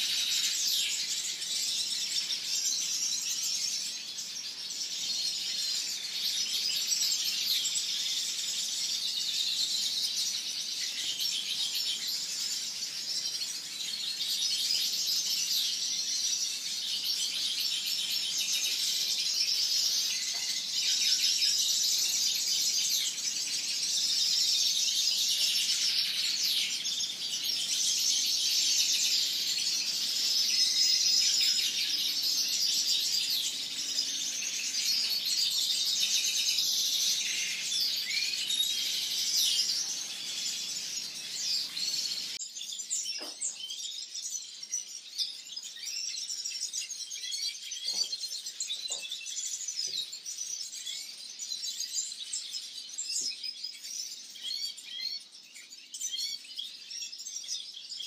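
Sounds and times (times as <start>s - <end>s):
finches singing and twittering: 0.0s - 58.0s.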